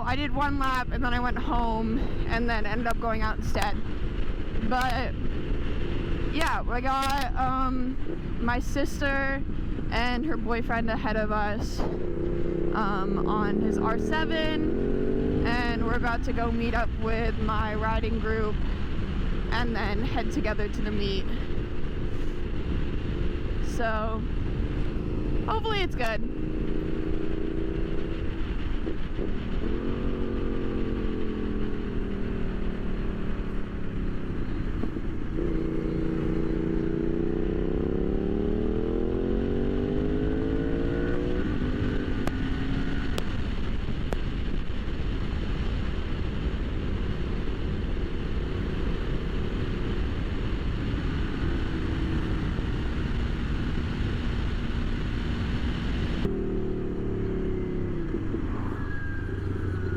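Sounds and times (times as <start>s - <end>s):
motorcycle engine accelerating: 0.0s - 59.9s
wind rumble on microphone: 0.0s - 59.9s.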